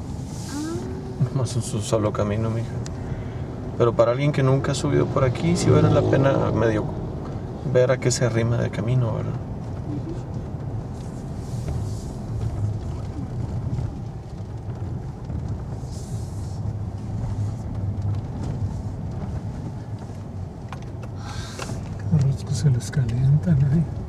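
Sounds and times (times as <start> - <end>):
engine and road hum in cabin: 0.0 - 24.0.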